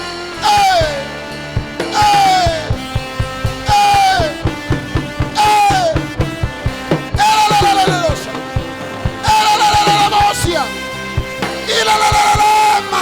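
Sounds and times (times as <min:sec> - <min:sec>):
high sliding note: 0:00.0 - 0:12.1
drums keeping a steady beat: 0:00.0 - 0:13.0
worship band music: 0:00.0 - 0:13.0.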